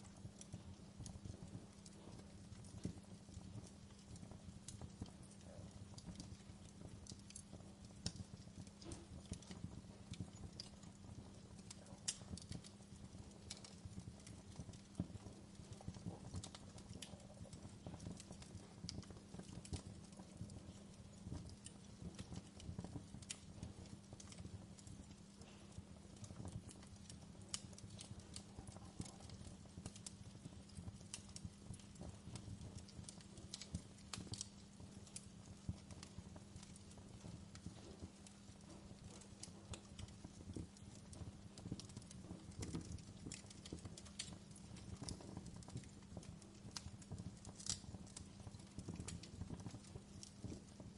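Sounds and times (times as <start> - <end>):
low rumble of fire: 0.0 - 50.9
wood fire crackling and popping: 0.0 - 50.9.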